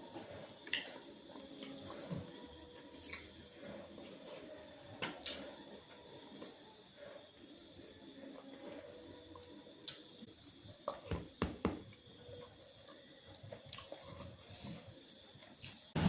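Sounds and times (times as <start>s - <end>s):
soft chewing: 0.0s - 11.0s, 11.9s - 15.9s.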